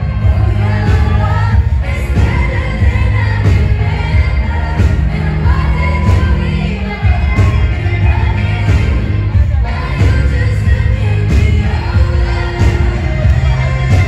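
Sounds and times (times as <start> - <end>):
heavy bass backing music: 0.0 - 14.0
woman singing pop music: 0.0 - 14.0.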